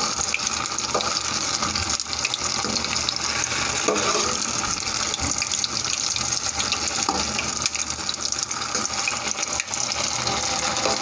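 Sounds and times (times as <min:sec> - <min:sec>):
batter deep-frying in oil: 0:00.0 - 0:11.0.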